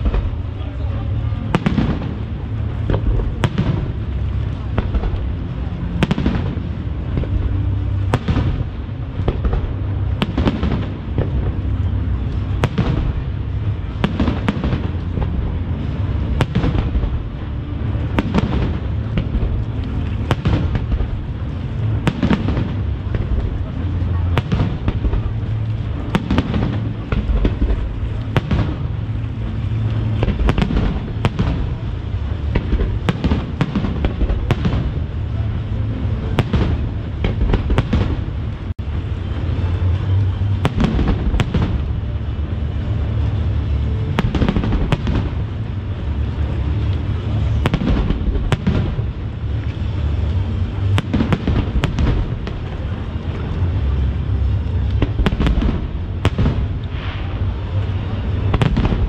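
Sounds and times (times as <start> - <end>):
continuous low rumble: 0.0 - 59.0.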